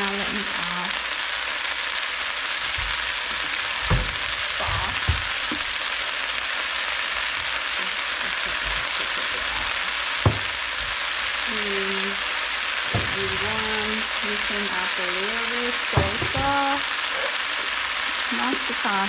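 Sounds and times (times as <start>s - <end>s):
vegetables sizzling in a wok: 0.0s - 19.0s.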